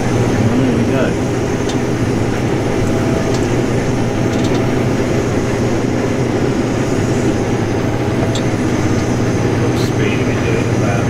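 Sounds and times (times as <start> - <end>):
combine harvester drone from cab: 0.0 - 11.0.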